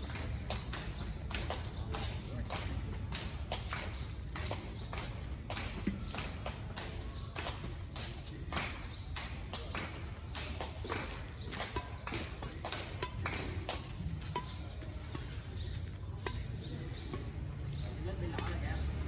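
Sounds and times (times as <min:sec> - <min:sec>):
rackets striking shuttlecock: 0:00.0 - 0:19.0.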